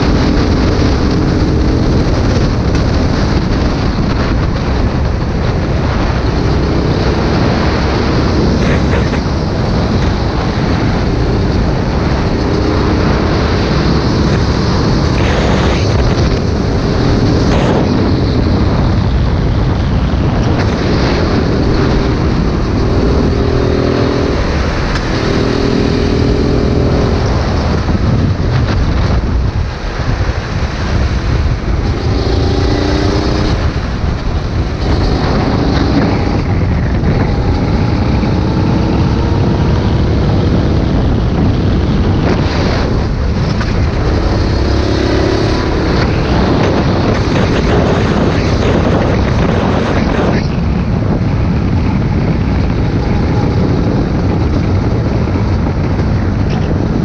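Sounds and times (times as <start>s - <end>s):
go-kart engine: 0.0s - 28.4s, 31.4s - 57.0s
wind buffeting microphone: 0.0s - 57.0s.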